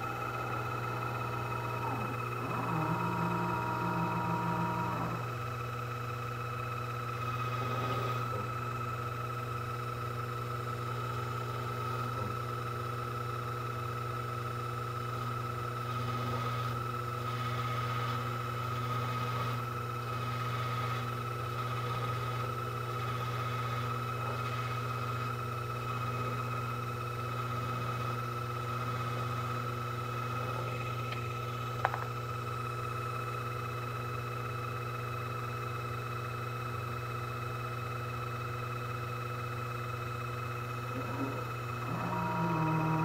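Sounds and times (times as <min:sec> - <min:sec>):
lathe running: 0:00.0 - 0:34.0, 0:40.2 - 0:43.0.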